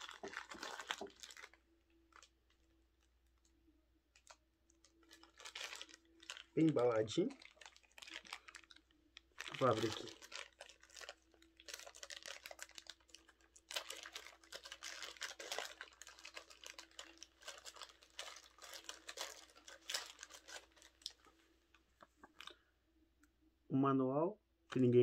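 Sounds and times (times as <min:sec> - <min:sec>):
plastic packaging crinkling: 0:00.0 - 0:03.5, 0:04.1 - 0:22.6.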